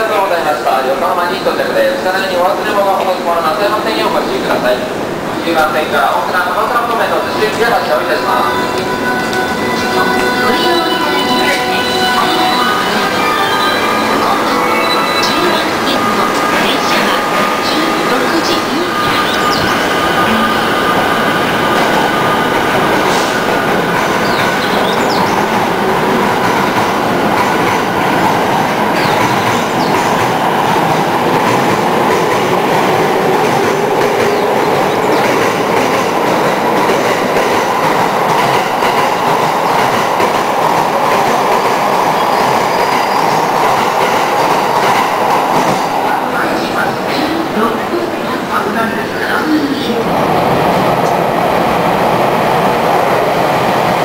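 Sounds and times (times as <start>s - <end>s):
electric train passing: 0.0s - 54.0s.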